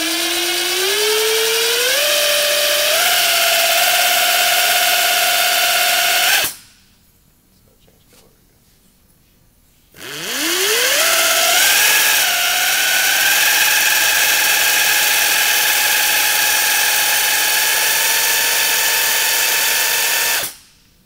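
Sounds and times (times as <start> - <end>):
air motor whining: 0.0 - 6.6, 10.0 - 20.6.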